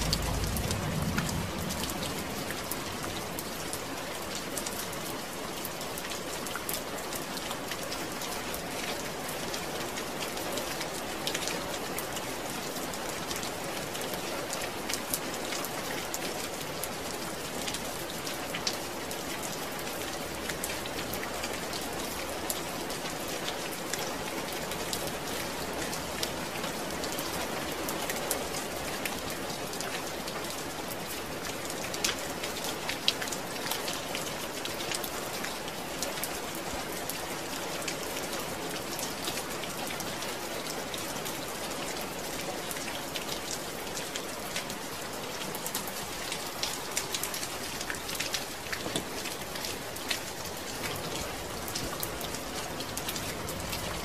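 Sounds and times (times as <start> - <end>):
rain falling: 0.0 - 54.0
raindrops pattering: 0.0 - 54.0.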